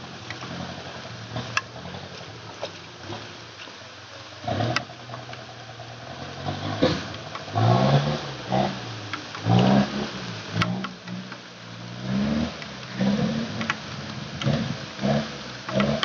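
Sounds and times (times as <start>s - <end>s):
diesel truck engine revving: 0.0s - 3.5s, 4.3s - 16.0s.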